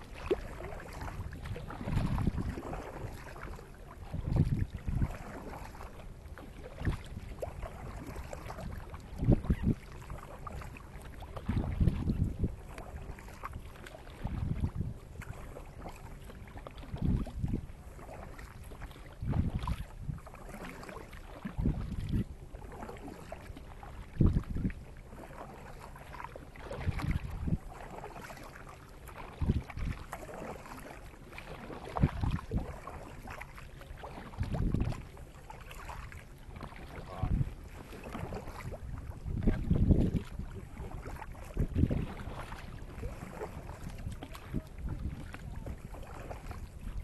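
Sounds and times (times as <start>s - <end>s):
wind on microphone: 0.0s - 16.0s, 16.8s - 20.5s, 21.4s - 22.4s, 23.3s - 24.9s, 26.6s - 27.9s, 29.1s - 30.5s, 31.8s - 33.4s, 34.1s - 35.2s, 35.8s - 47.0s
paddles splashing in water: 0.0s - 47.0s.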